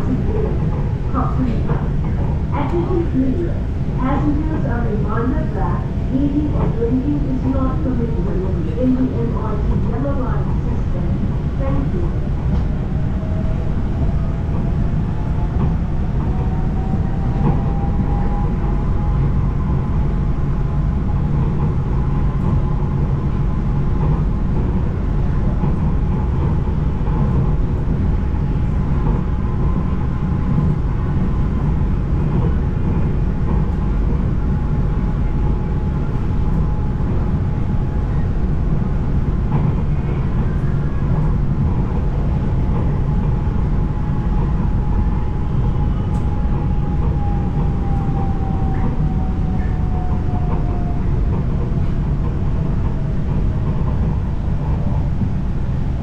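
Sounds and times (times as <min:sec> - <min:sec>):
monorail train rumbling: 0:00.0 - 0:56.0
train whine: 0:00.0 - 0:56.0.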